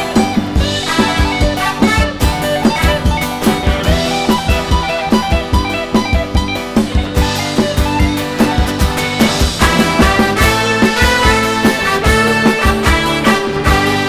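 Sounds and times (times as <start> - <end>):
steady drum-kit beat: 0.0 - 14.0.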